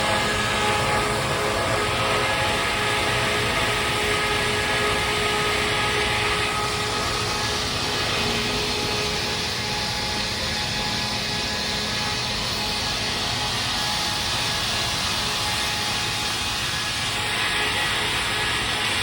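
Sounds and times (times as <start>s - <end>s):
faint steady whine: 0.0s - 19.0s
industrial machine running: 0.0s - 19.0s.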